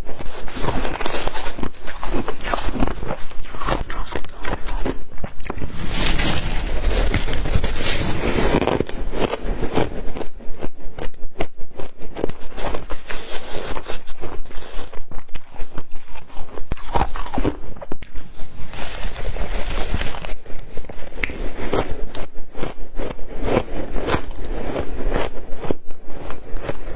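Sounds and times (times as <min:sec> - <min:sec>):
ice being chewed: 0:00.0 - 0:26.9.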